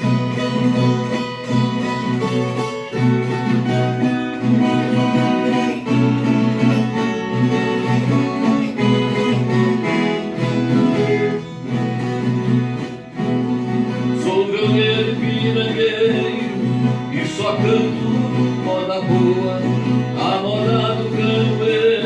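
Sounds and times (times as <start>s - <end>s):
guitars plucking and strumming: 0.0s - 22.0s.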